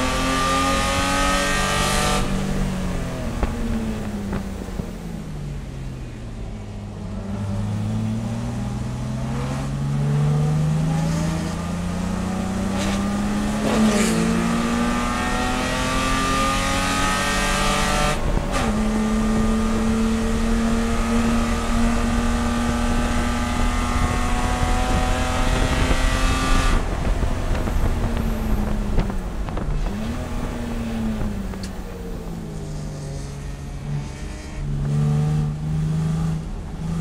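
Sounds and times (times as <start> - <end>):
race car engine accelerating: 7.0 - 37.0.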